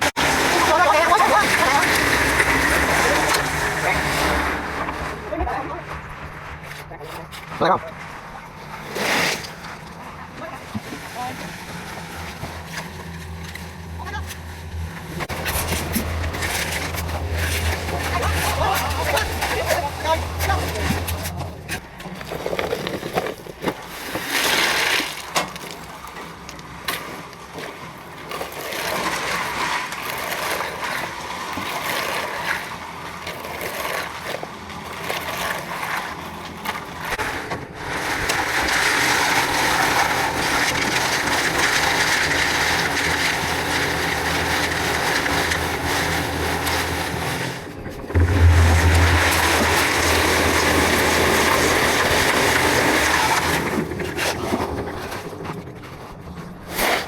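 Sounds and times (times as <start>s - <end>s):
heavy machine engine running: 0.0s - 23.3s, 28.9s - 56.7s
knocking and scraping: 0.0s - 25.8s, 26.8s - 57.0s.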